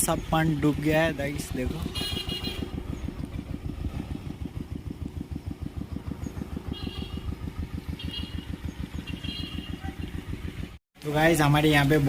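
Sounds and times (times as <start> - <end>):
small engine idling: 0.0 - 10.8.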